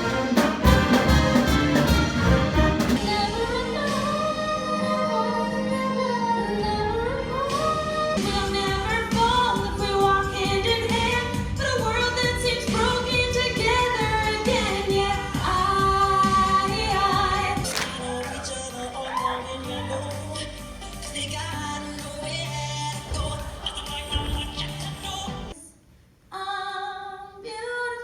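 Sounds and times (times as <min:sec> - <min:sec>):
song with singing and beat: 0:00.0 - 0:25.6.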